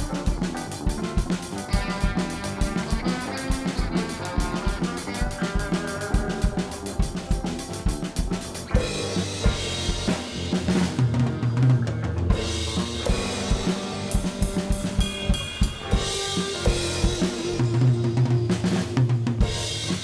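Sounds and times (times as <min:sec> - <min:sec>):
drum kit playing: 0:00.0 - 0:20.0
jazz-rock fusion instrumental: 0:00.0 - 0:20.0.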